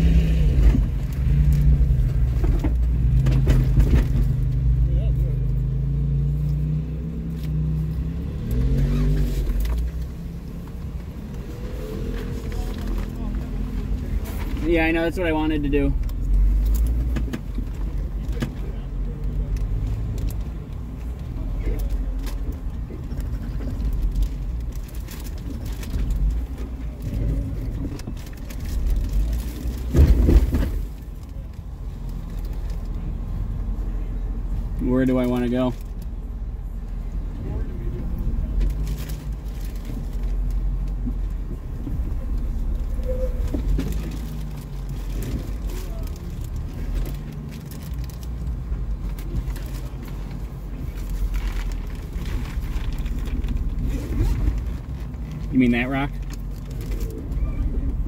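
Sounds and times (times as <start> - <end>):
engine rumble: 0.0 - 58.0.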